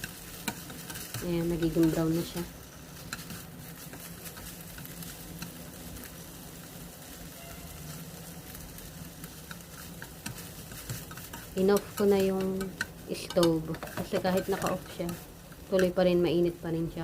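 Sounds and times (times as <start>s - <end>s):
meat sizzling in oil: 0.0s - 17.0s
small crackles: 0.0s - 17.0s.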